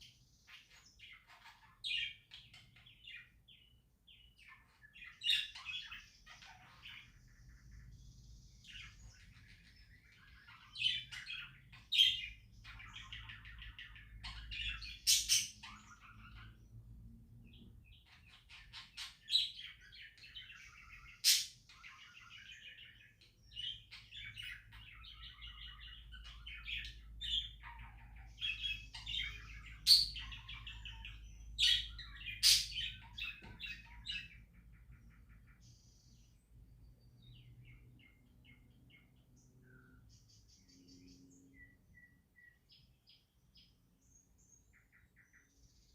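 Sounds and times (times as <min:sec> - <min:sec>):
budgerigars chirping and warbling: 0:00.0 - 0:45.9.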